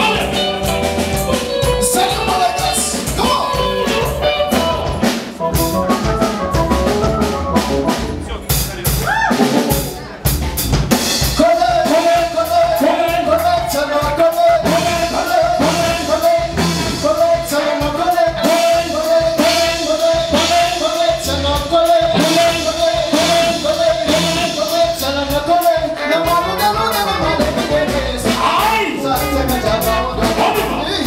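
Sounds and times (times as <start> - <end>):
person singing: 0.0 - 7.0, 11.2 - 31.0
live band playing dance music: 0.0 - 31.0.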